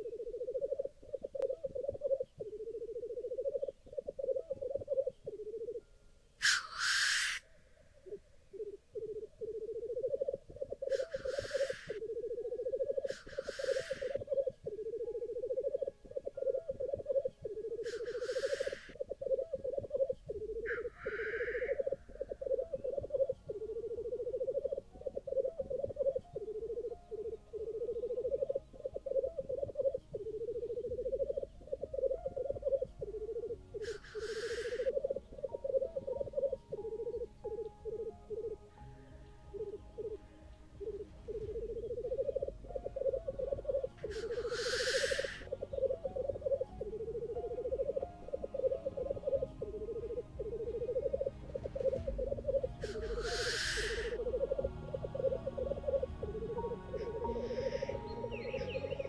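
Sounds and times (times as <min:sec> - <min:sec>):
grouse hissing calls: 0:00.0 - 0:05.8, 0:06.4 - 0:38.8, 0:39.5 - 0:40.2, 0:40.8 - 0:59.0
black grouse bubbling cooing song: 0:00.0 - 0:40.2, 0:40.8 - 0:59.0.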